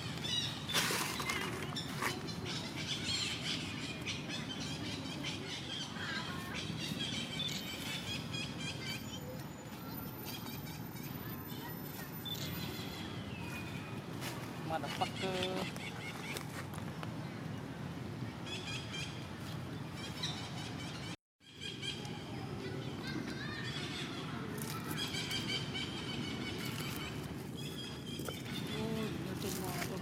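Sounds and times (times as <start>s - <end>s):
birds chirping and calling: 0.0s - 16.6s, 20.0s - 30.0s.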